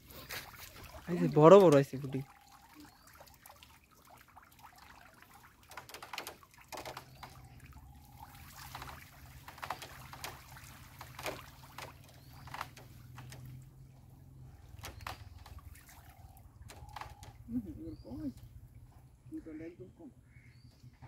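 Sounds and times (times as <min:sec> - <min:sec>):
water splashing and trickling: 0:00.0 - 0:19.8.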